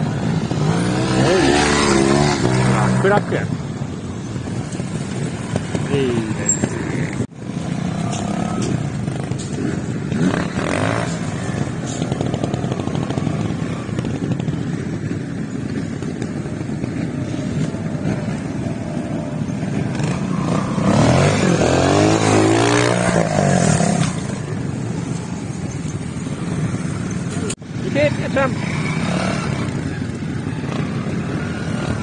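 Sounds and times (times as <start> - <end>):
motorcycle revving hard: 0.0 - 3.4, 5.0 - 24.7, 26.1 - 32.0
motorcycle engines running: 0.0 - 32.0.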